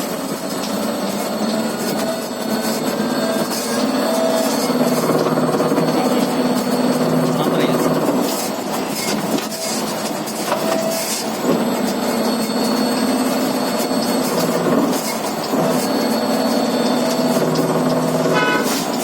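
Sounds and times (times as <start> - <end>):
electric bus whine: 0.0 - 19.0
rattling road noise: 0.0 - 19.0.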